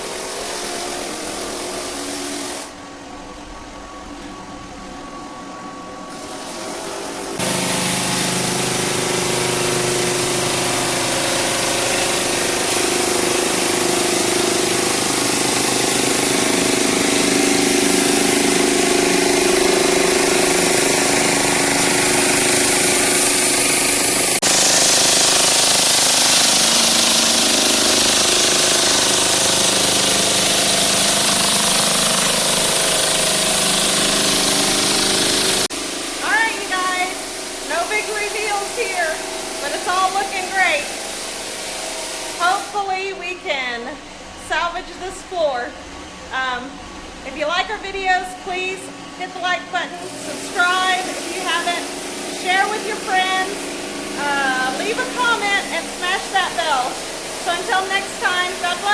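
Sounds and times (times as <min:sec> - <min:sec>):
floor sander running: 0:00.0 - 0:03.8, 0:04.4 - 0:45.4, 0:46.3 - 0:58.9.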